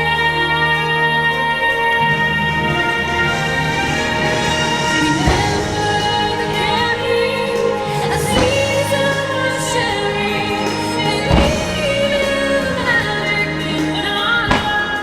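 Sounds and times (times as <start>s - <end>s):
choir singing with orchestra: 0.0s - 15.0s
firework bangs: 2.7s - 15.0s.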